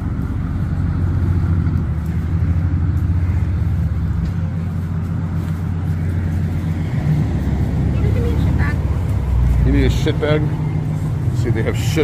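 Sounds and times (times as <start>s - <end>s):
low mechanical hum: 0.0s - 9.7s.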